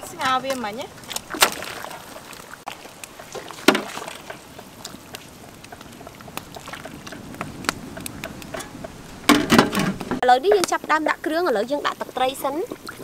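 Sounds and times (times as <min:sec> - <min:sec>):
soup bubbling in a pot: 0:00.2 - 0:13.0.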